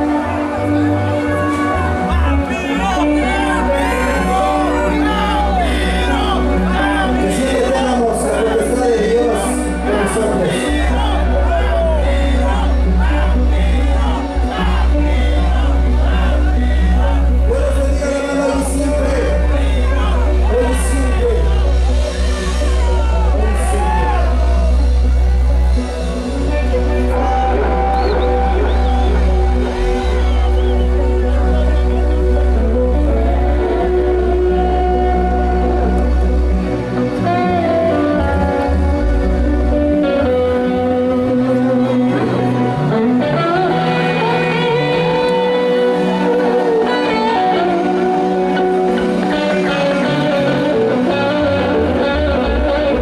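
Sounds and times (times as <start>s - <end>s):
electric guitar lead melody: 0.0s - 53.0s
live music through sound system: 0.0s - 53.0s
low bass notes: 0.0s - 53.0s.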